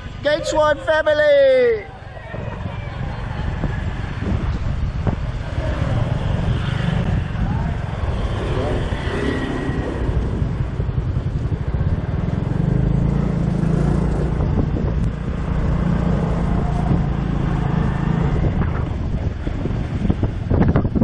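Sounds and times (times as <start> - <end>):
street traffic: 0.0 - 21.0
wind buffeting microphone: 0.0 - 21.0.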